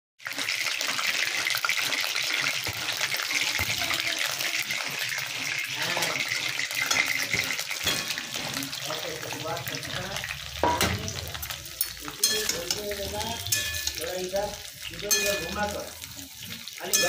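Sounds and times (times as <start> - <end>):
hot oil sizzling and crackling: 0.2 - 17.0.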